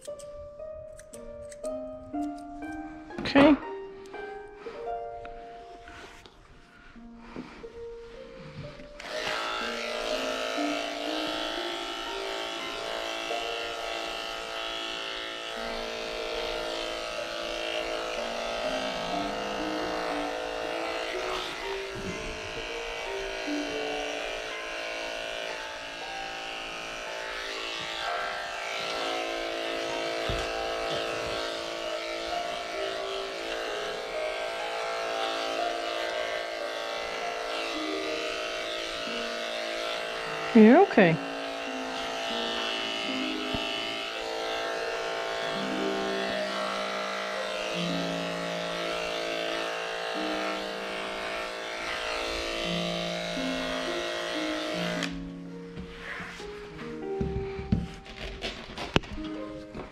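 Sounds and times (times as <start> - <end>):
electric clippers buzzing: 0.0 - 4.5, 5.1 - 6.4, 8.6 - 59.9
background music: 0.0 - 59.9.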